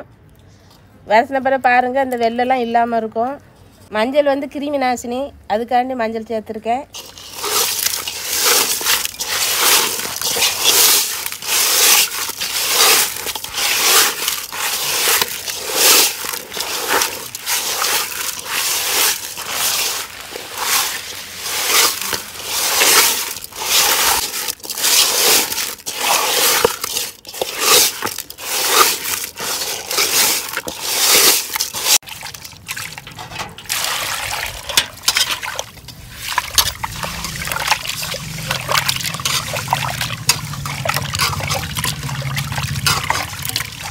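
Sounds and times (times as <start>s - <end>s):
hands scrubbing wet fish with salt: 6.9s - 43.9s.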